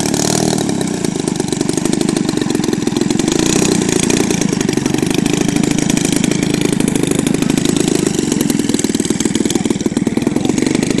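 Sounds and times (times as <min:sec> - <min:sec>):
airplane piston engine running: 0:00.0 - 0:11.0.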